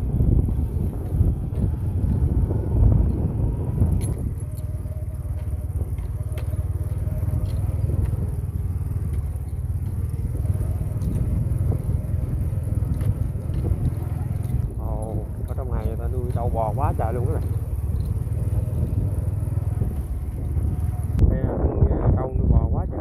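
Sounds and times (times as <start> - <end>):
vehicle engine and road rumble: 0.0 - 23.0
vehicle rattling over rough ground: 0.0 - 23.0.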